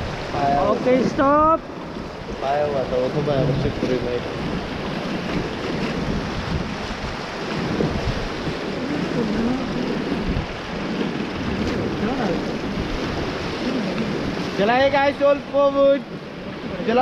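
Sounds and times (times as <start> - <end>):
river water rushing and splashing: 0.0 - 17.0
wind buffeting microphone: 0.0 - 17.0.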